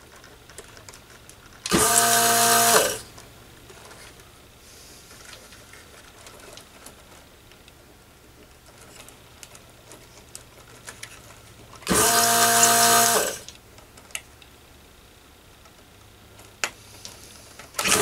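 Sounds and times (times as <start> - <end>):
desoldering pump running: 0.0 - 18.0.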